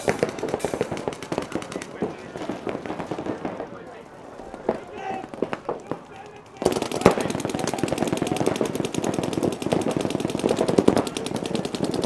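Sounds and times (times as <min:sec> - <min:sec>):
paintball markers firing: 0:00.0 - 0:03.6, 0:05.4 - 0:12.0.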